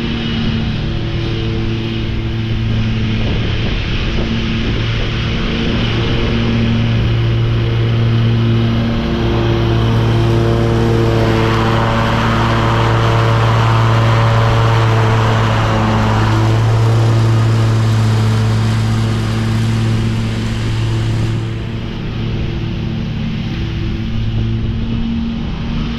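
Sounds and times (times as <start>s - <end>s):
mower mulching leaves: 0.0s - 25.9s
rushing noise: 0.0s - 25.9s.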